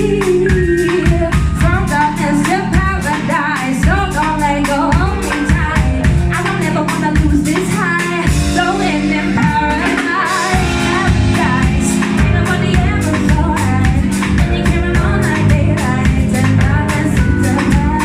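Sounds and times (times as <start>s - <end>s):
live band music: 0.0s - 18.0s
woman singing: 0.0s - 18.0s.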